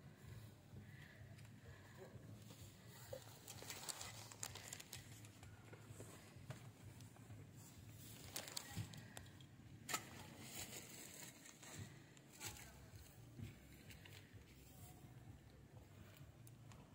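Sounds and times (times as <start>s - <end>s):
soft crackles and ticks: 0.4s - 9.8s, 11.0s - 16.9s.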